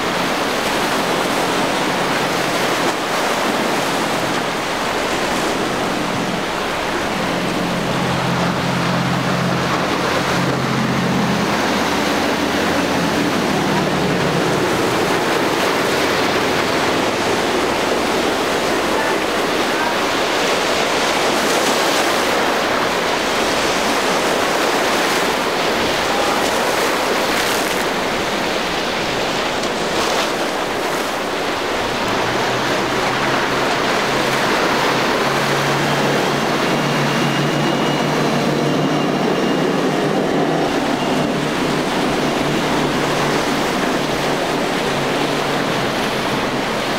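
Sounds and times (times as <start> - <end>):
boat engine droning: 0.0 - 46.9
waves and surf: 0.0 - 46.9.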